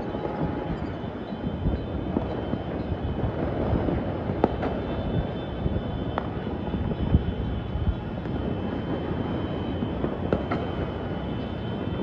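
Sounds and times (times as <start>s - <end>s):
distant firecracker bangs: 0.0s - 12.0s
low city rumble: 0.0s - 12.0s.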